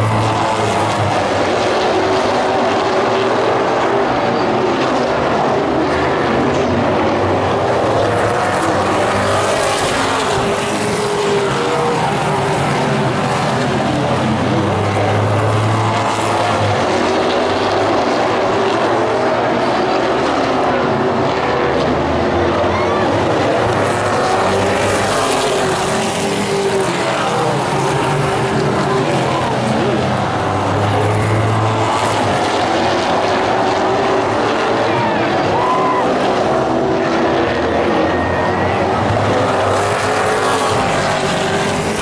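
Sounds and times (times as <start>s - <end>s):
race car engines roaring: 0.0s - 42.0s.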